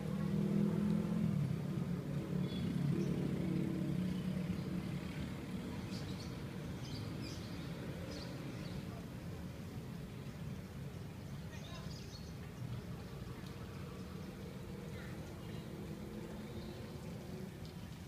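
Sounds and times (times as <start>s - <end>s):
outdoor noise: 0.0s - 18.0s.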